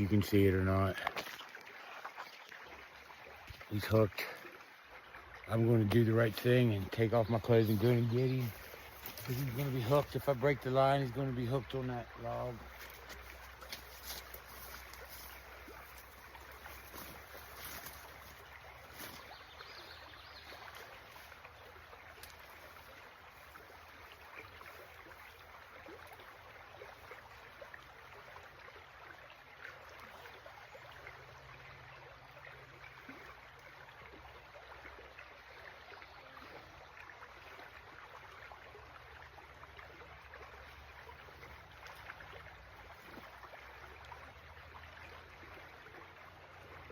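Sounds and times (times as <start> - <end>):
stream water flowing: 0.0 - 46.9.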